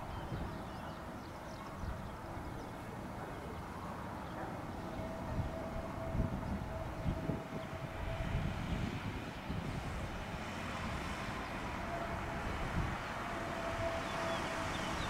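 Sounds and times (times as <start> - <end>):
wind rumbling on microphone: 0.0 - 2.7, 4.8 - 15.0
jet airliner engine drone: 1.7 - 15.0.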